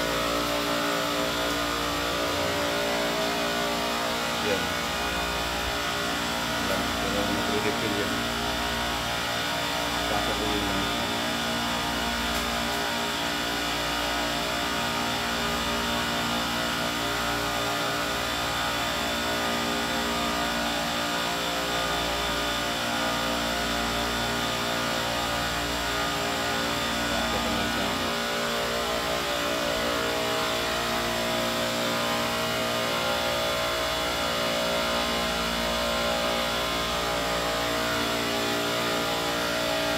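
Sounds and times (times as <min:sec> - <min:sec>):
refrigeration compressors humming: 0:00.0 - 0:39.9.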